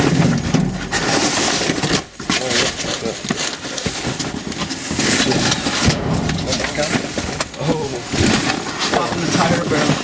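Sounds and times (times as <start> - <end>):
trash rustling in a dumpster: 0.0 - 10.0.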